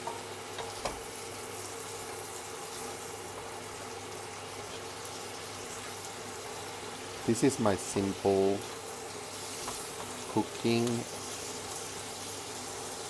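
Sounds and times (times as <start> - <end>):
electric kettle boiling: 0.0 - 13.0
food frying in a pan: 0.0 - 13.0
kitchen exhaust fan humming: 0.0 - 13.0.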